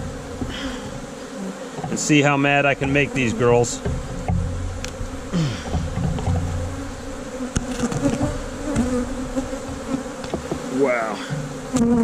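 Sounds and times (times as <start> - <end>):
bees buzzing: 0.0 - 12.0
single bees whining past: 0.0 - 12.0.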